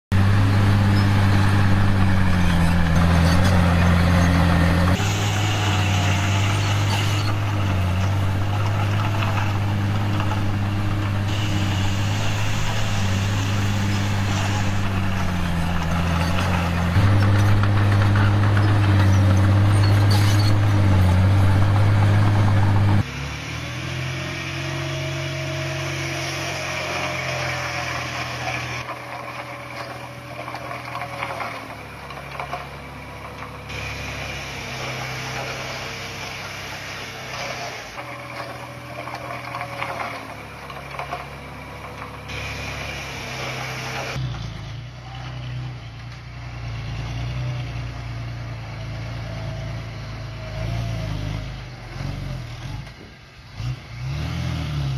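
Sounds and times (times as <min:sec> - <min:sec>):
bulldozer diesel engine running: 0:00.1 - 0:54.9.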